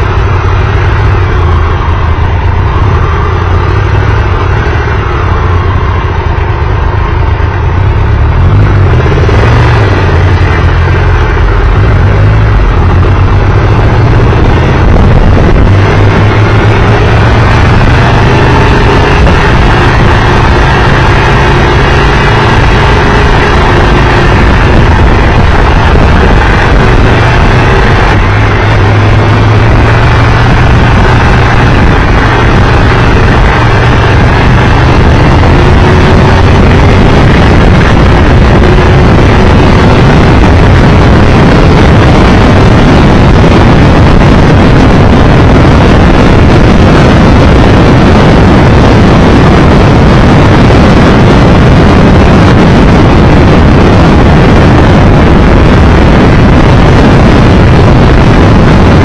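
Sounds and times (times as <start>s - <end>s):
motorcycle engine hum: 0.0s - 59.0s
wind rush on microphone: 0.0s - 59.0s.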